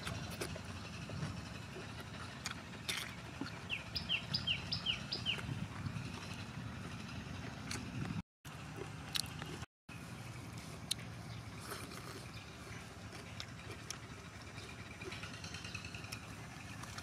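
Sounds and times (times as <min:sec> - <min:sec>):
chewing and eating clicks: 0:00.0 - 0:04.2, 0:04.9 - 0:09.7, 0:10.5 - 0:17.0.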